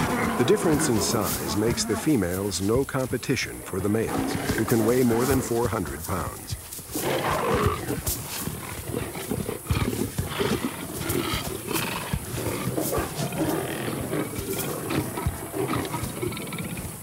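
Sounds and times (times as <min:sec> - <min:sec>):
lions snarling and growling: 0:00.0 - 0:17.0.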